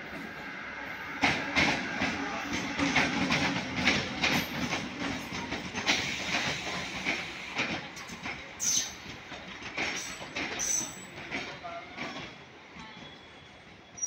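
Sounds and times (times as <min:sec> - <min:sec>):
train rumble: 0:00.0 - 0:14.0
train wheels clattering over joints: 0:01.2 - 0:13.2.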